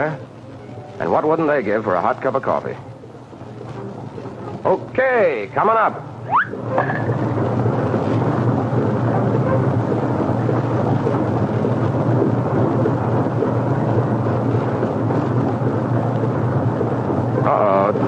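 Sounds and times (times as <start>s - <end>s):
low hum: 0.0s - 18.0s
refrigeration machinery roaring: 0.0s - 18.0s.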